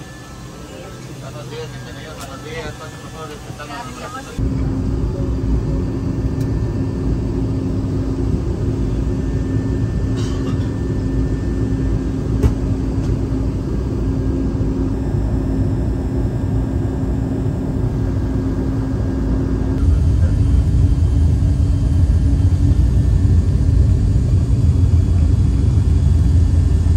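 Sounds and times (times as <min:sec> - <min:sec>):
airplane cabin drone: 0:00.0 - 0:26.9.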